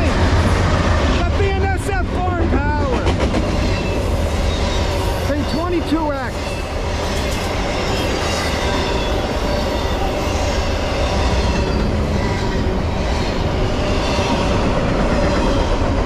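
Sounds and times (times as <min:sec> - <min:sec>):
freight train rolling past: 0:00.0 - 0:16.0
steel wheels clattering on rail: 0:02.8 - 0:16.0.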